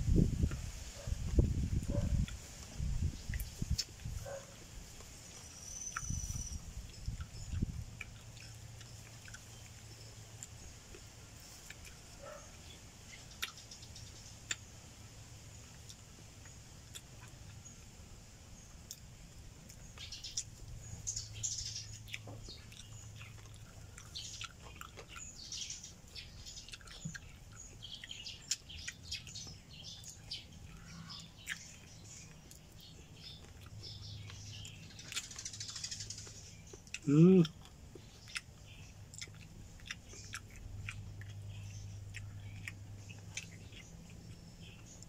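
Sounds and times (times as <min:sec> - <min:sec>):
small birds chirping: 0:00.1 - 0:45.0
eating with fingers: 0:00.2 - 0:14.7, 0:15.5 - 0:17.9, 0:18.6 - 0:45.0.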